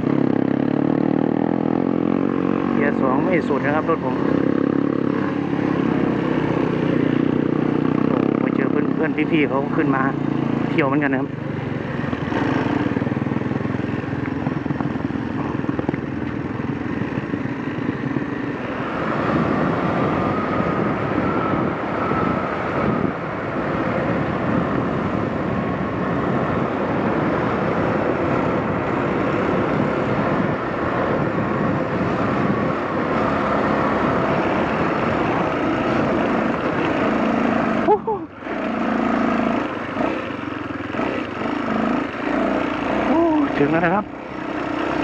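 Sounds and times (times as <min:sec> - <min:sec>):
wind rush on microphone: 0:00.0 - 0:38.7
motorcycle engine running: 0:00.0 - 0:45.0.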